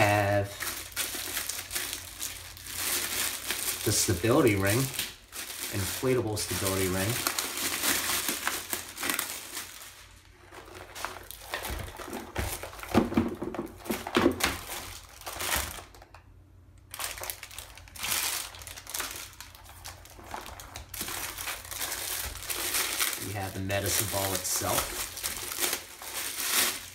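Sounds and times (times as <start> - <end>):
plastic packaging crinkling: 0.0 - 16.2, 16.8 - 26.9.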